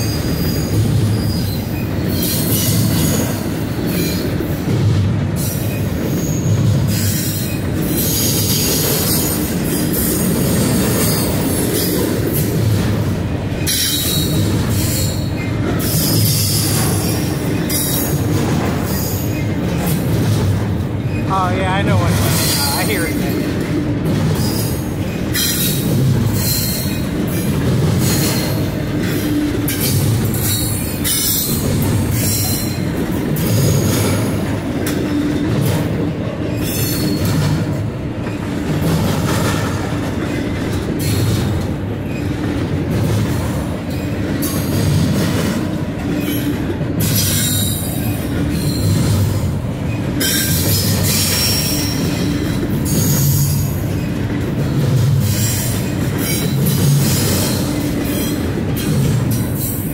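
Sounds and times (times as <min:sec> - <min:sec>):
clatter over rail joints: 0:00.0 - 0:21.3, 0:22.0 - 0:59.9
freight train wheels rumbling: 0:00.0 - 0:59.9.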